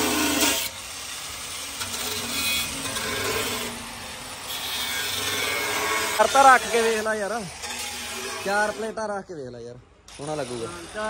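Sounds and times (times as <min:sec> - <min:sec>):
angle grinder cutting steel: 0:00.0 - 0:09.0, 0:10.1 - 0:11.0.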